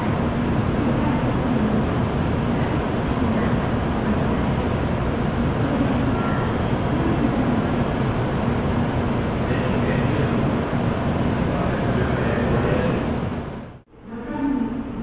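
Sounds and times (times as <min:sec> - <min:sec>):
train rumble and hum: 0:00.0 - 0:15.0.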